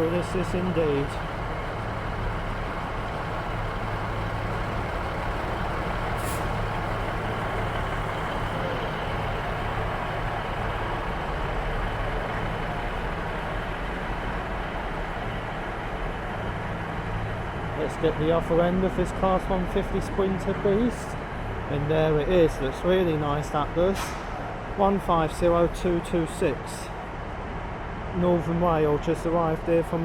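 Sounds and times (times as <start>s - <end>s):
diesel engines idling: 0.0s - 30.0s.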